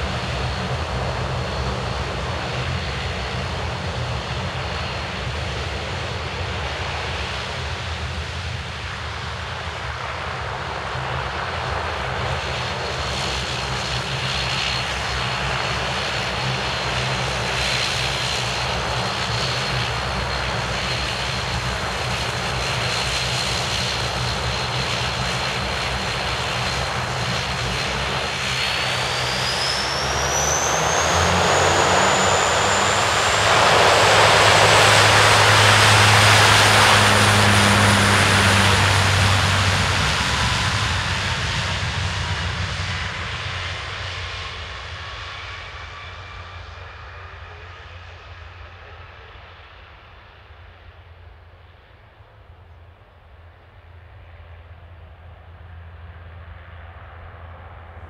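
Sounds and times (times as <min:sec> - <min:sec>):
propeller drone: 0:00.0 - 0:58.0
turboprop engine whine: 0:00.0 - 0:58.0.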